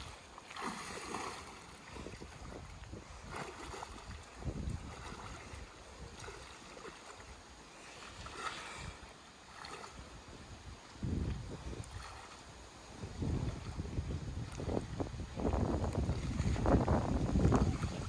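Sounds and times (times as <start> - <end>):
wind on microphone: 0.0 - 7.4, 8.0 - 18.0
water splashing and sloshing: 0.0 - 18.0.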